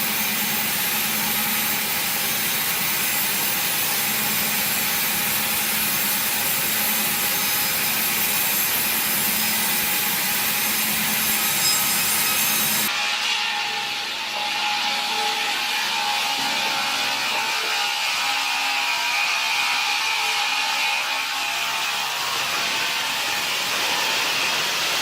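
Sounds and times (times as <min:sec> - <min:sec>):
saw cutting through wood: 0:00.0 - 0:25.0.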